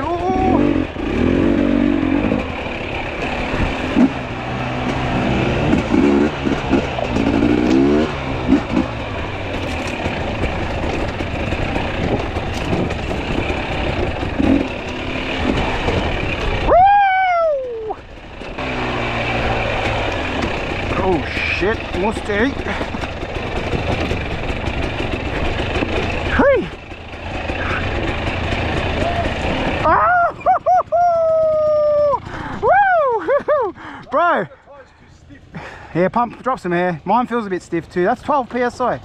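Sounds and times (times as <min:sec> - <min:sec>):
motorcycle engine revving: 0:00.0 - 0:32.8.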